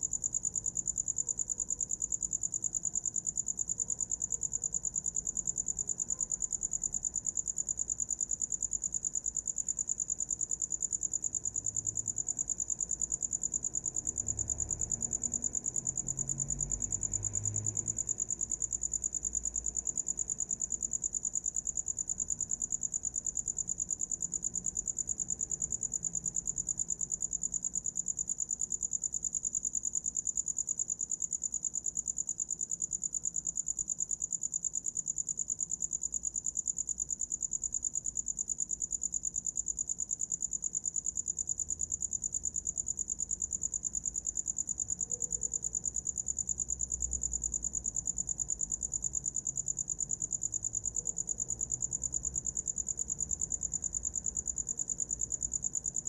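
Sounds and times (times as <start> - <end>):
cricket trilling: 0.0 - 56.0.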